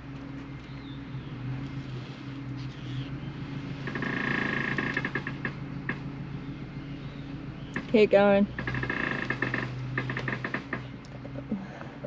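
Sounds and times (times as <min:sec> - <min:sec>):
diesel truck engine humming: 0:00.0 - 0:12.0.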